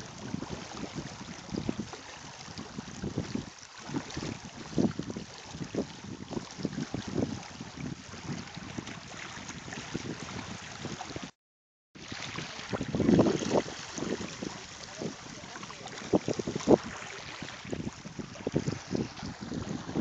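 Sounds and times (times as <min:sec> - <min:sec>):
wind buffeting microphone: 0:00.0 - 0:11.3, 0:12.0 - 0:20.0.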